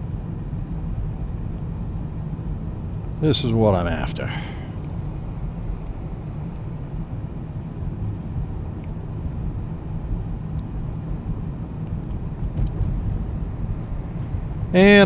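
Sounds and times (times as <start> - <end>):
car driving road and engine noise: 0.0 - 15.0.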